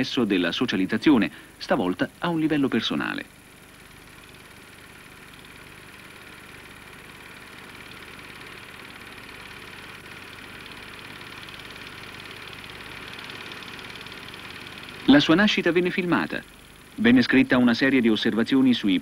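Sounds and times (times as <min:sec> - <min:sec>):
mechanical whirring hum: 0:00.0 - 0:19.0.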